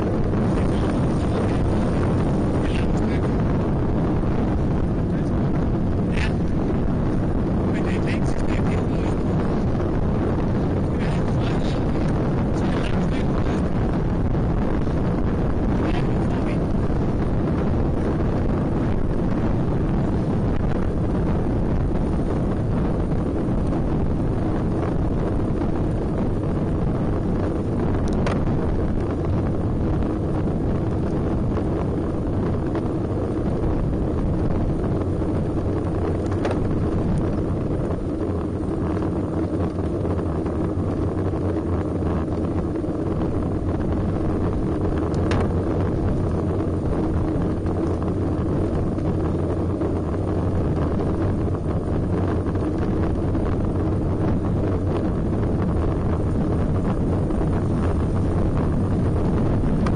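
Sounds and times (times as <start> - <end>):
bicycle rolling on road: 0.0 - 59.9
wind rushing over microphone: 0.0 - 59.9.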